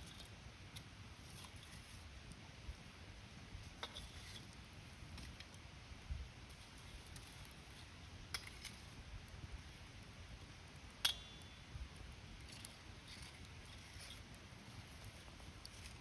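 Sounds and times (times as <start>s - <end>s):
fire crackling: 0.0s - 16.0s
low rumble of flames: 0.0s - 16.0s.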